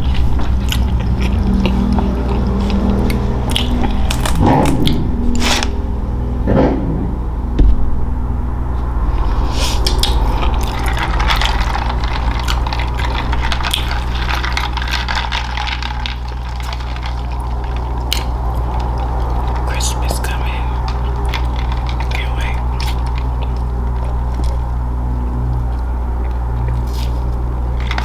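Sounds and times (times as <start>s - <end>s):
wet eating sounds: 0.0s - 5.8s, 9.1s - 28.0s
steady low hum: 0.0s - 28.0s.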